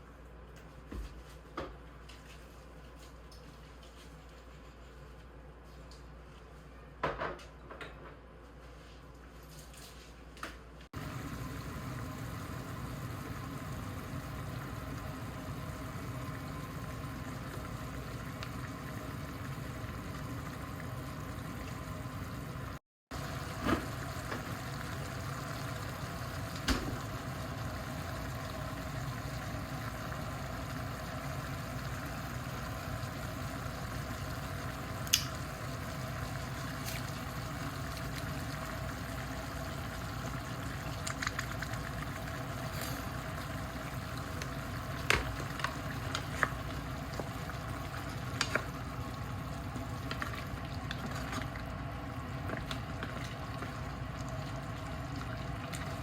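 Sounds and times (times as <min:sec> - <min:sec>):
pot simmering with bubbling: 0:11.0 - 0:56.0.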